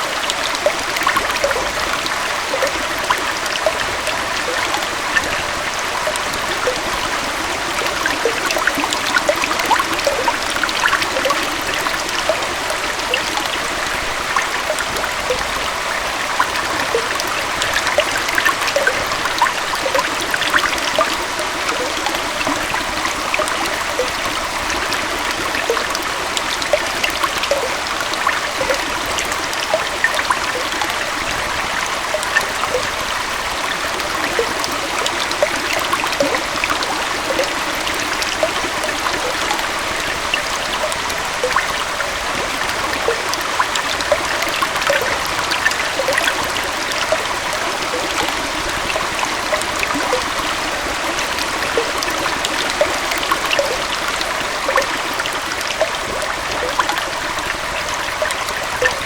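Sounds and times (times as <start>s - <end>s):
water splashing and bubbling: 0.0s - 59.0s.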